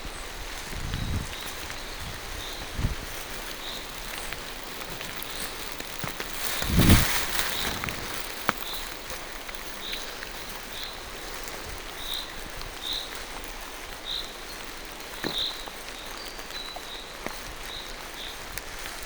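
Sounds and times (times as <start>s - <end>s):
rain falling through trees: 0.0s - 19.0s
water drips ticking: 1.3s - 19.0s.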